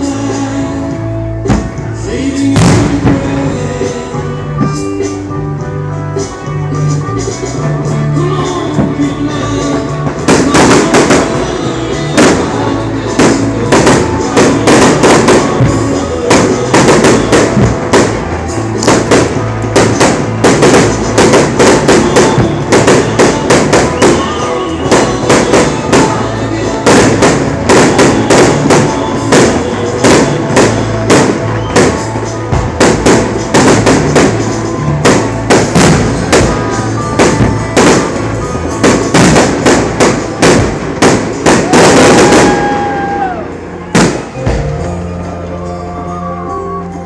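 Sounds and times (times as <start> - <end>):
music playing: 0.0 - 47.0
fireworks bursting: 1.5 - 5.3, 6.2 - 45.1.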